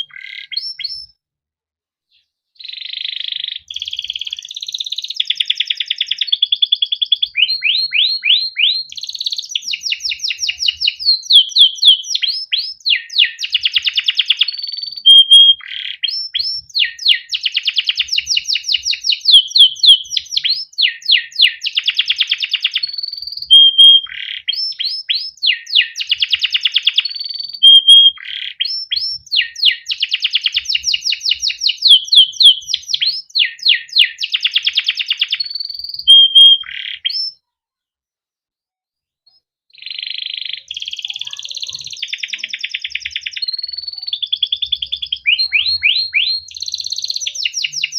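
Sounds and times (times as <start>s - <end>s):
canary singing: 0.0s - 1.2s, 2.1s - 37.4s, 39.3s - 47.9s.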